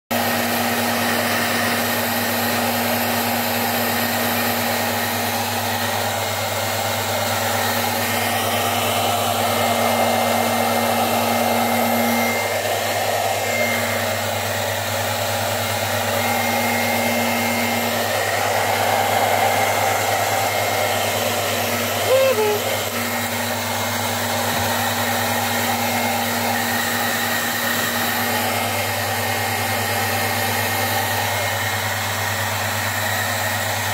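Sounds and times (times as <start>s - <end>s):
blower motor whirring: 0.2s - 33.9s.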